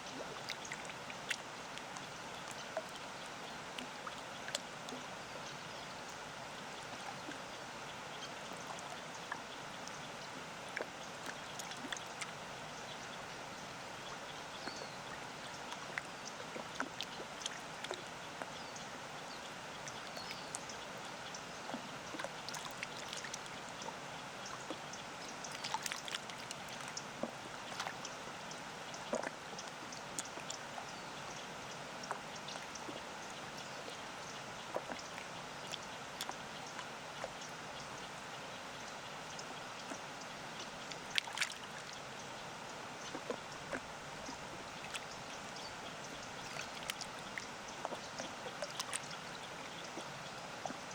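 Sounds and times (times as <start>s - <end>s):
small waves lapping and splashing: 0.0s - 50.9s.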